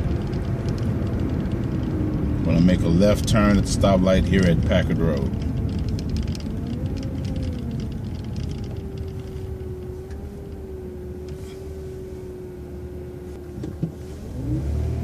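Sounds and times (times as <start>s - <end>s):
bus engine rumbling with whine: 0.0s - 15.0s.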